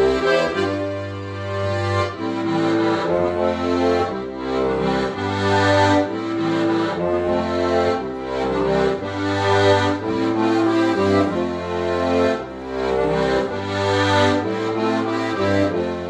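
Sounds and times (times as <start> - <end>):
accordion playing a tune: 0.0 - 16.0.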